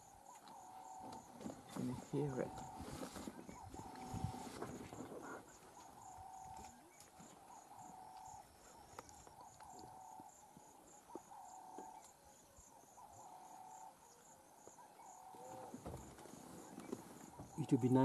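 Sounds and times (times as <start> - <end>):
insects chirping rapidly: 0.0 - 18.0.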